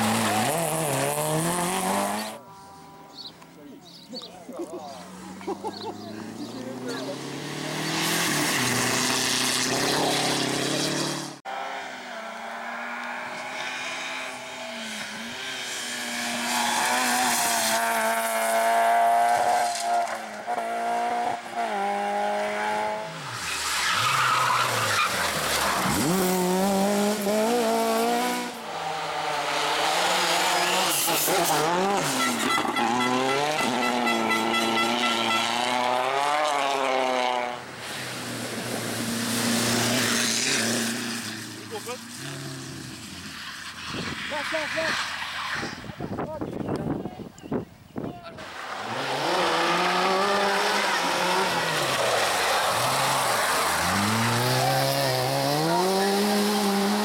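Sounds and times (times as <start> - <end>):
rally car engines revving: 0.0 - 47.0, 48.4 - 57.0.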